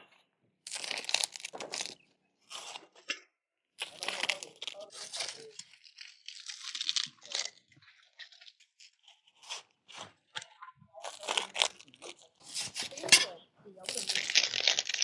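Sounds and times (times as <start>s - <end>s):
crunching and tearing: 0.1s - 15.0s.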